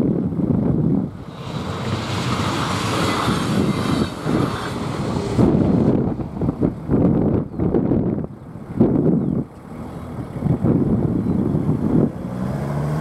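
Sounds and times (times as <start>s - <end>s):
train rail and wheel noise: 0.0s - 10.8s
wind noise on microphone: 0.0s - 13.0s.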